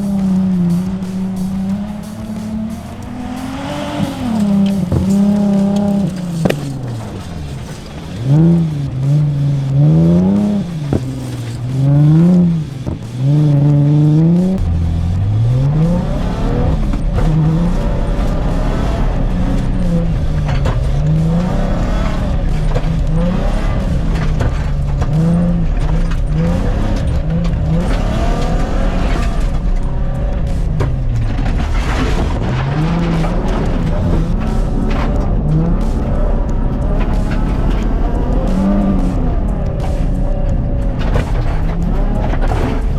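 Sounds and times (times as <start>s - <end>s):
rally car engine revving: 0.0s - 42.9s.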